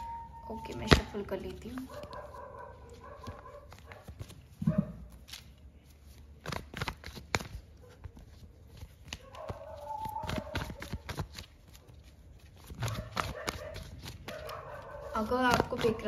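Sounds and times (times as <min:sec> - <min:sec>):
cards shuffled by hand: 0:00.8 - 0:16.0.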